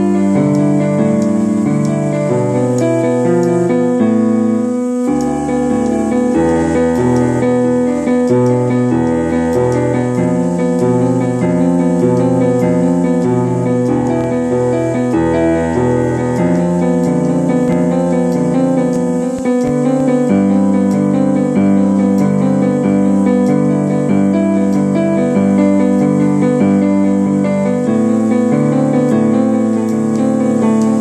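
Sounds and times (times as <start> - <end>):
keyboard chords with bass line: 0.0 - 31.0.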